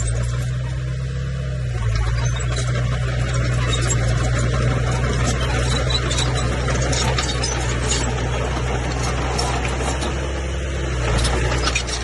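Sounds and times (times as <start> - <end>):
bulldozer diesel engine running: 0.0 - 12.0
tracks squeaking and clicking: 0.0 - 12.0.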